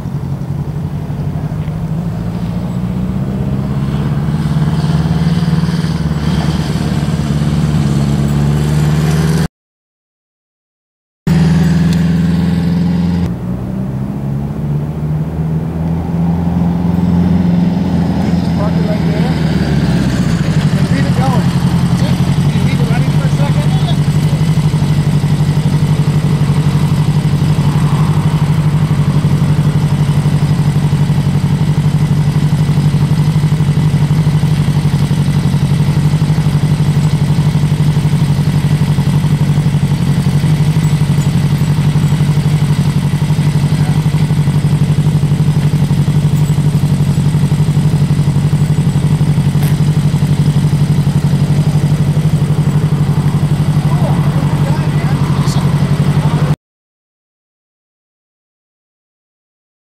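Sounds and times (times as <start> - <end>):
motorcycle engine idling: 0.0 - 4.8, 5.4 - 8.7, 11.3 - 13.4, 17.9 - 56.6.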